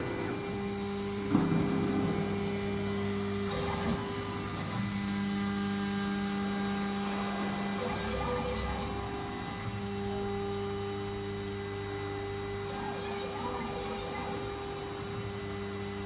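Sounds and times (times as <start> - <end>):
router motor hum: 0.0 - 16.0.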